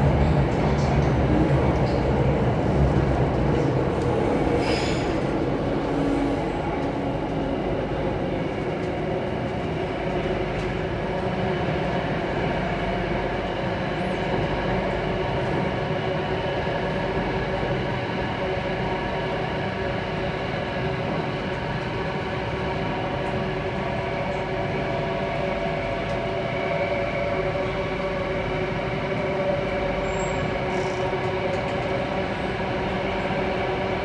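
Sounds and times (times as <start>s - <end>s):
metro train rumbling: 0.0s - 34.0s.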